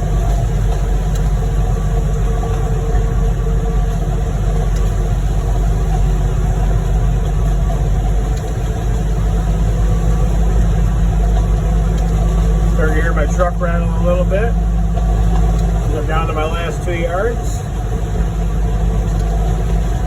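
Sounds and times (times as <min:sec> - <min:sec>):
heavy diesel engines running: 0:00.0 - 0:20.0.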